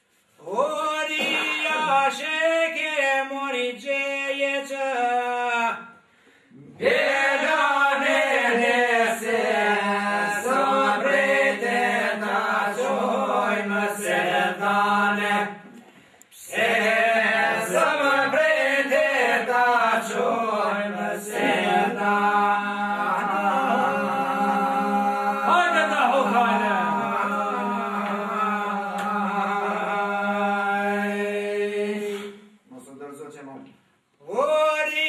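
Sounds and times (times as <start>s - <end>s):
men singing a cappella: 0.4s - 32.6s, 34.2s - 35.0s.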